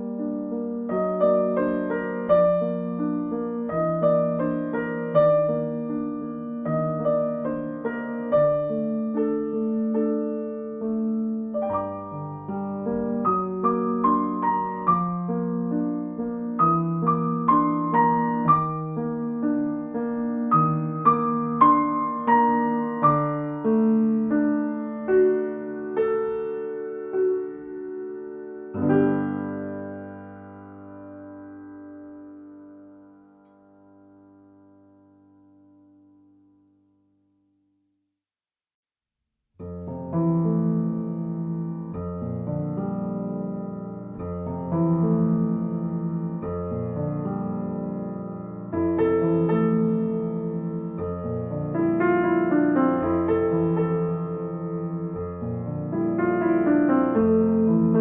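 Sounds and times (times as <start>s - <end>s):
slow gentle piano music: 0.0s - 37.7s, 39.6s - 58.0s.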